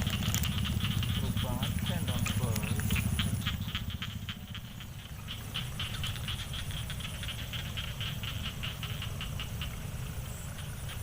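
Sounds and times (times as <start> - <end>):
small animals chirping: 0.0 - 11.0
steady low rumble: 0.0 - 11.0.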